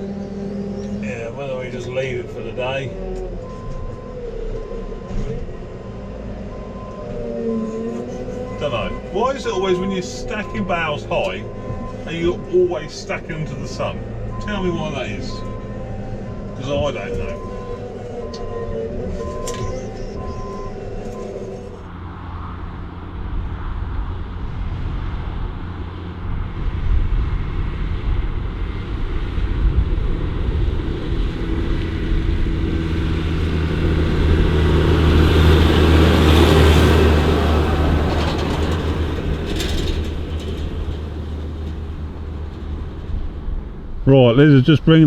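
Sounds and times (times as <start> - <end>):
diesel engine droning: 0.0 - 45.0.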